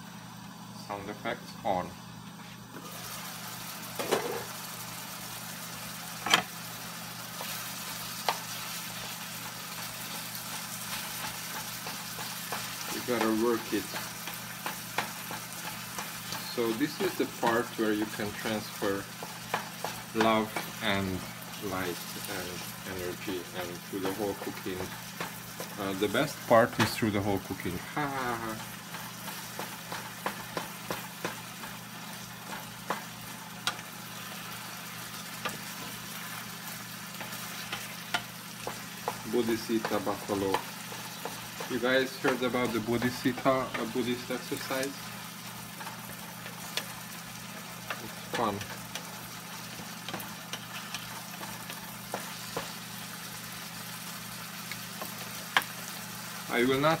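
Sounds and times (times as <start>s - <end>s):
meat and onions sizzling in a pan: 2.7s - 57.0s.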